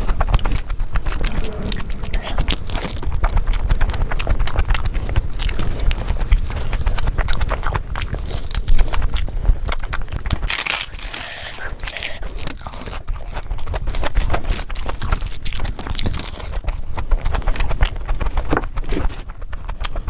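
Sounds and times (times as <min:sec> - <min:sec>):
person chewing food wetly: 0:00.0 - 0:20.0.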